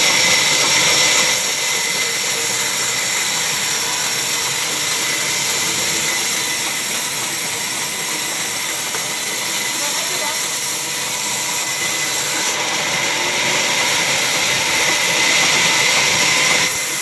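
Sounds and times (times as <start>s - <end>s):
band saw cutting log: 0.0s - 17.0s.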